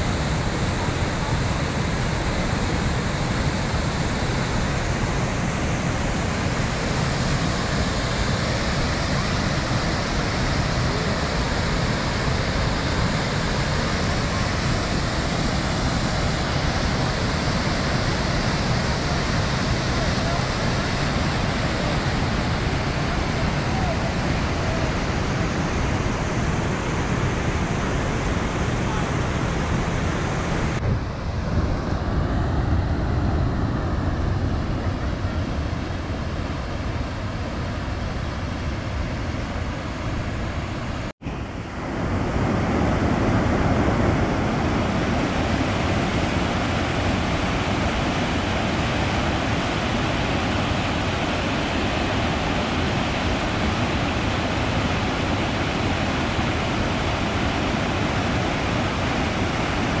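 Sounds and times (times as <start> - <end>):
fast-flowing water rushing: 0.0 - 60.0.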